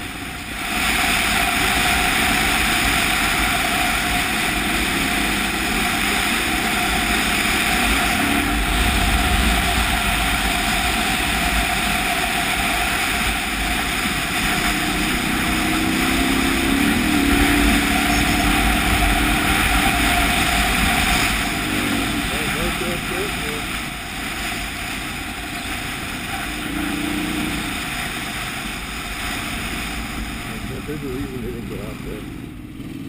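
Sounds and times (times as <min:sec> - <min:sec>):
wind rush on microphone: 0:00.0 - 0:31.9
motorcycle engine running: 0:00.0 - 0:33.0.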